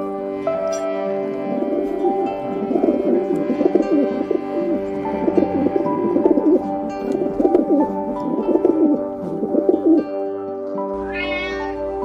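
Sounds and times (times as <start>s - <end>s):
background music with held notes: 0.0s - 12.0s
pigeon cooing: 0.0s - 12.0s.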